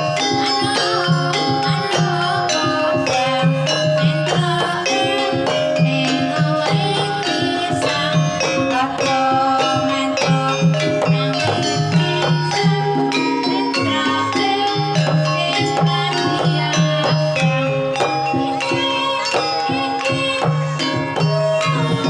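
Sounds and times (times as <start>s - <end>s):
metallophones ringing: 0.0s - 22.0s
steady drum beat: 0.0s - 22.0s.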